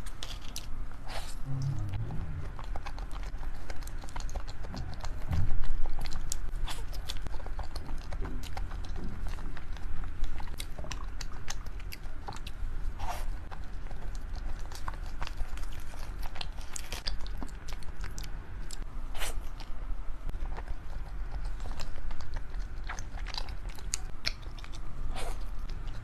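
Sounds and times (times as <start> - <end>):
person chewing close to microphone: 0.0 - 26.0
steady low hum: 0.0 - 26.0.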